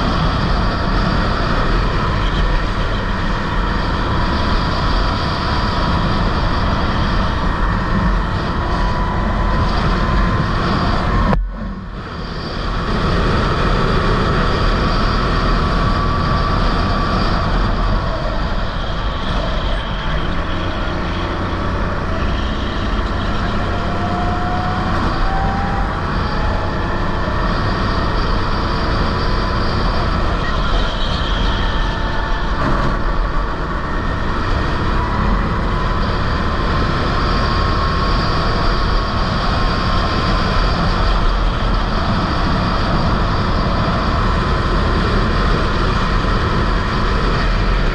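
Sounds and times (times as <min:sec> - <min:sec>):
go-kart engine running: 0:00.0 - 0:47.9.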